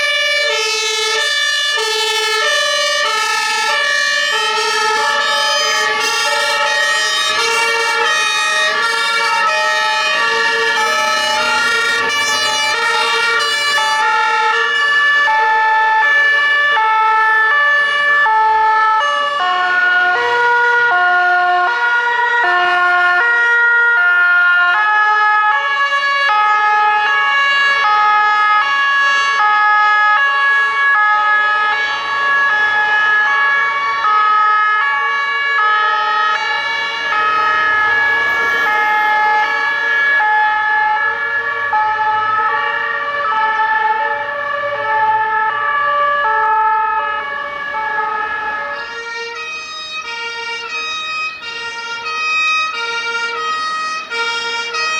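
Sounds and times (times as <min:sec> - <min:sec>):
two-tone fire-engine sirens: 0:00.0 - 0:54.9.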